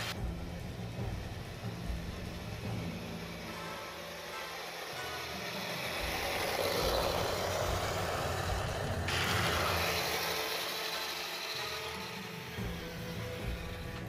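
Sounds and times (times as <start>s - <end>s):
gearbox and tracks whirring: 0.0s - 14.0s
simulated engine rumble: 0.0s - 14.0s.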